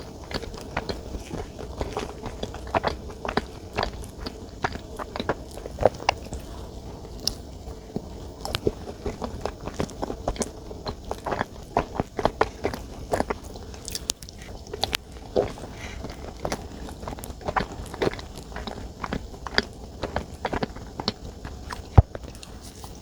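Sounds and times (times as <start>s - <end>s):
chewing soft dessert: 0.0s - 23.0s.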